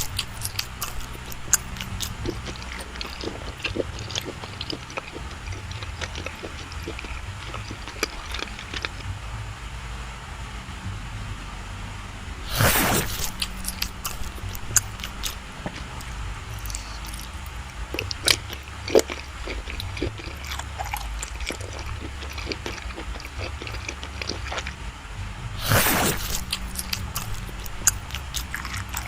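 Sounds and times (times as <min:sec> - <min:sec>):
biting cake: 0:00.0 - 0:09.0, 0:12.5 - 0:24.8, 0:25.6 - 0:29.0
wet chewing: 0:00.0 - 0:09.1, 0:12.5 - 0:24.9, 0:25.5 - 0:29.0
mouth clicks: 0:00.0 - 0:09.5, 0:12.4 - 0:29.0
low background hum: 0:00.0 - 0:29.0.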